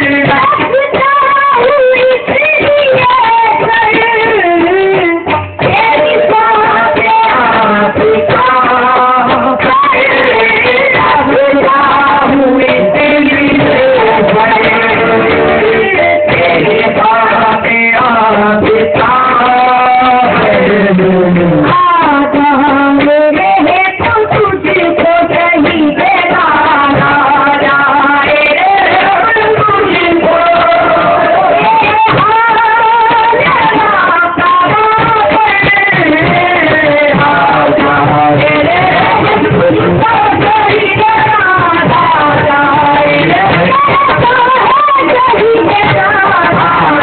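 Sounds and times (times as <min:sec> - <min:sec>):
man singing devotional song: 0:00.0 - 0:47.0
musical accompaniment: 0:00.0 - 0:47.0.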